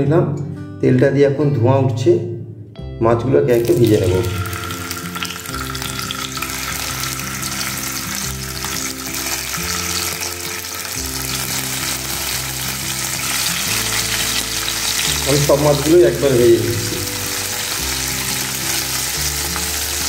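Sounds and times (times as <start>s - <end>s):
soft background music: 0.0s - 20.0s
fish sizzling in hot oil: 3.5s - 20.0s.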